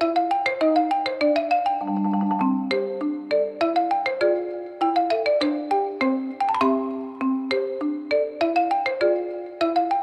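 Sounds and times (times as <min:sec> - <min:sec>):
mallet percussion melody: 0:00.0 - 0:10.0.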